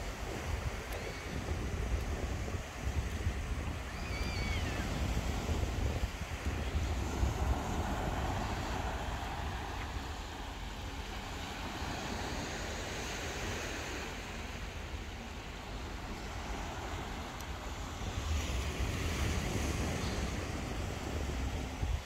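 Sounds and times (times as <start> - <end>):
outdoor noise: 0.0 - 22.0
wind buffeting microphone: 0.0 - 22.0.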